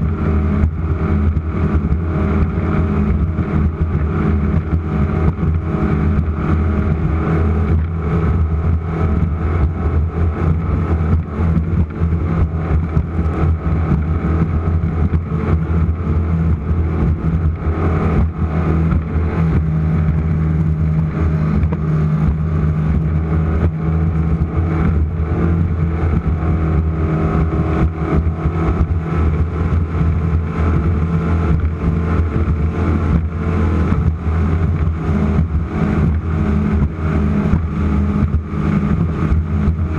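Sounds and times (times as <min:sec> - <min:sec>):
boat engines running hard: 0:00.0 - 0:39.9.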